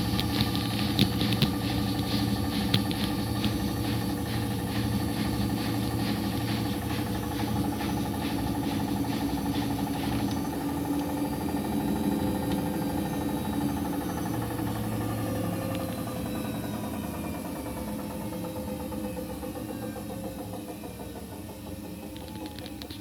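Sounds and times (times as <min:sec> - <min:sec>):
washing machine spin hum: 0:00.0 - 0:23.0.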